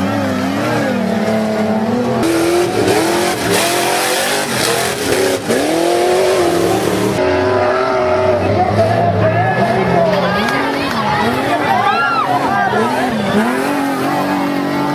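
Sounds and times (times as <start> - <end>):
truck engines revving: 0.0 - 14.9.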